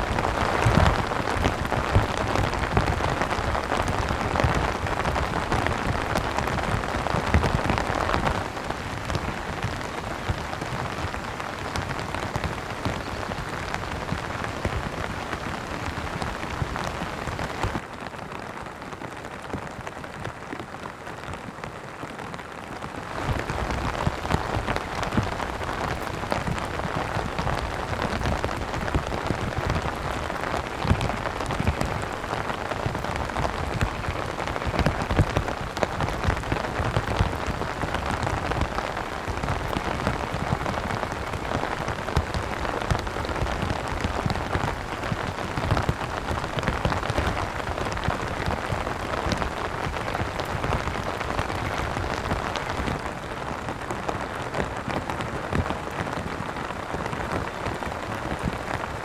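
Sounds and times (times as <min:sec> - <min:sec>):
rain drops hitting a surface: 0:00.0 - 0:59.0.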